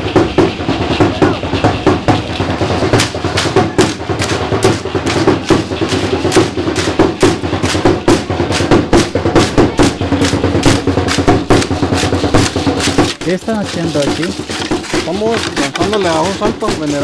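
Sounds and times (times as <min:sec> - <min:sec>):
drums beating quick rhythm: 0:00.0 - 0:17.0.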